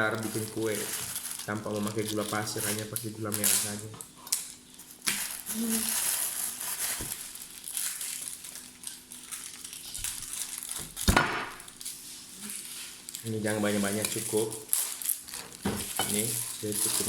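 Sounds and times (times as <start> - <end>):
food crunching and scraping: 0.1 - 17.0.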